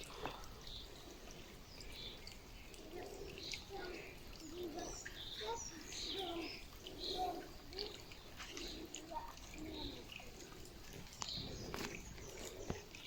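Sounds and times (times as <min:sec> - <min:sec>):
low arched bird calls: 0:00.0 - 0:13.0.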